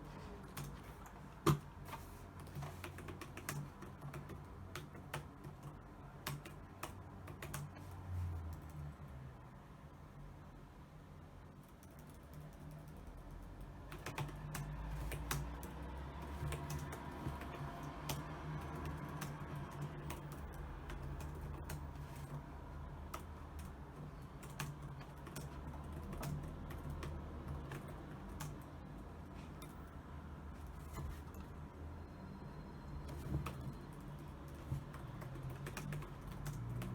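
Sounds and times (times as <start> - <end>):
computer keyboard typing: 0.3 - 8.9, 11.5 - 31.8, 32.9 - 36.9.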